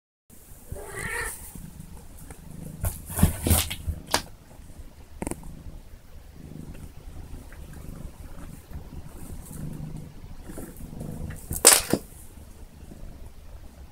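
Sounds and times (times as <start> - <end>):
kitten purring: 0.4 - 13.9.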